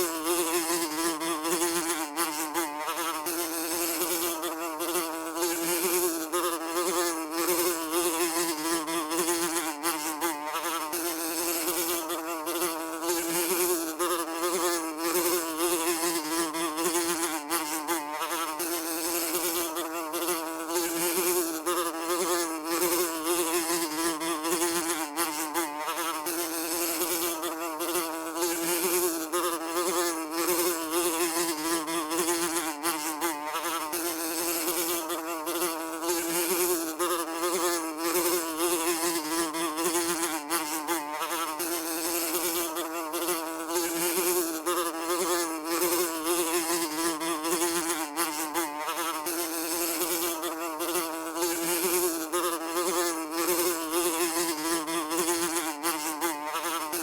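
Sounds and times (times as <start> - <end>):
fly buzzing: 0.0 - 57.0.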